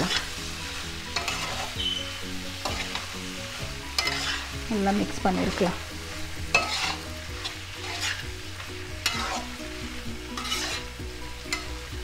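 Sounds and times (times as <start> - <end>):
wooden spatula scraping: 0.0 - 11.7
prawns sizzling in a wok: 0.0 - 12.0.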